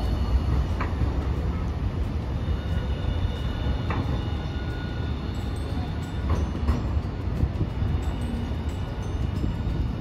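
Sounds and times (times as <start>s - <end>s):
steel wheels rumbling on rails: 0.0s - 10.0s.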